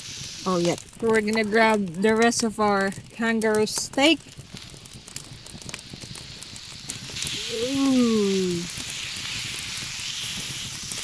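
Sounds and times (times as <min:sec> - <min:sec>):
meat sizzling on grill pan: 0:00.0 - 0:11.0.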